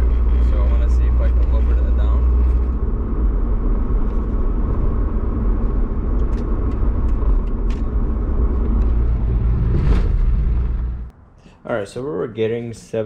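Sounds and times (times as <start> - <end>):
car cabin road and engine rumble: 0.0 - 11.1.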